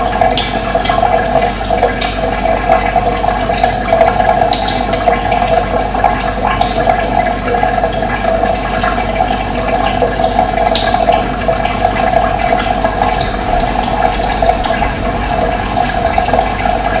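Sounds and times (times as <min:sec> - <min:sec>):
running water gurgling: 0:00.0 - 0:17.0.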